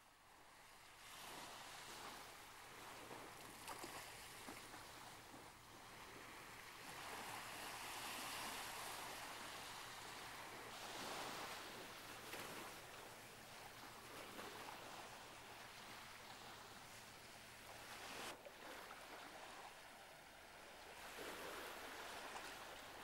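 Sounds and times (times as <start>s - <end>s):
surf and lapping water: 0.0s - 23.0s.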